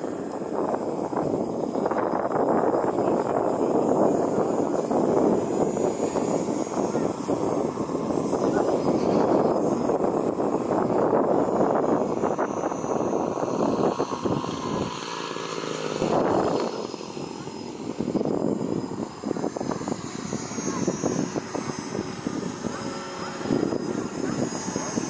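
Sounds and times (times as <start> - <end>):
model plane propeller engine: 0.0 - 25.0.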